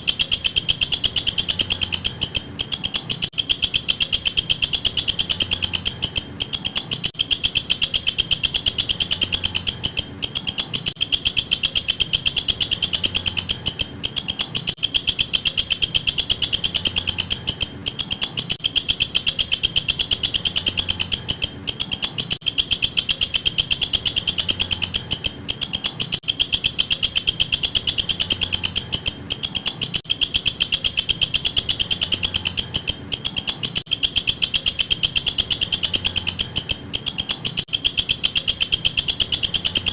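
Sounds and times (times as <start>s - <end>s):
katydid stridulating: 0.0s - 39.9s.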